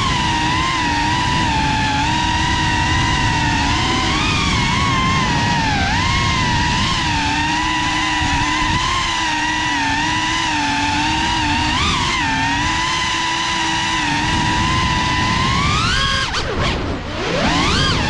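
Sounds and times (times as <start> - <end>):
drone propellers whining: 0.0 - 18.0
wind rumble: 0.0 - 18.0.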